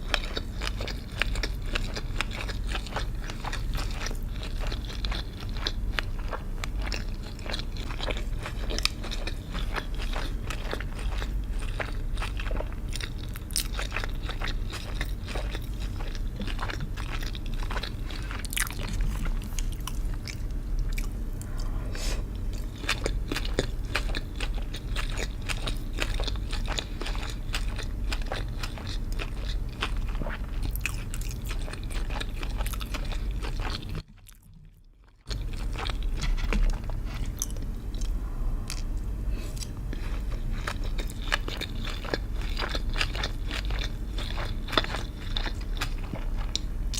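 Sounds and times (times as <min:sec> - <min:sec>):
crunchy food being chewed: 0:00.0 - 0:46.9.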